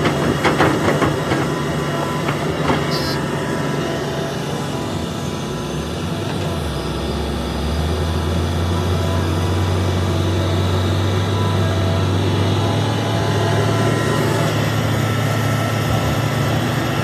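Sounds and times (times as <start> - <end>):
excavator diesel engine revving: 0.0 - 17.0.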